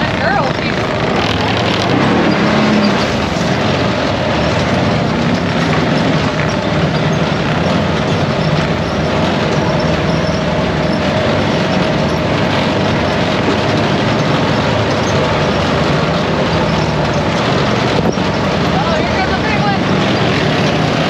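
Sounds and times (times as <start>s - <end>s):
atv engine running: 0.0s - 21.0s
rushing noise: 0.0s - 21.0s.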